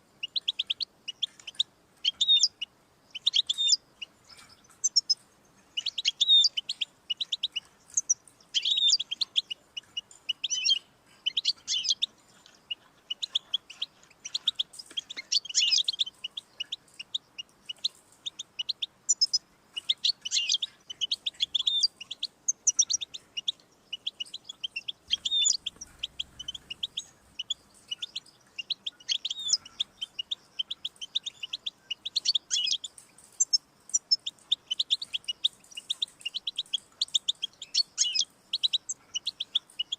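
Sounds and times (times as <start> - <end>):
goldfinch singing: 0.1 - 39.9.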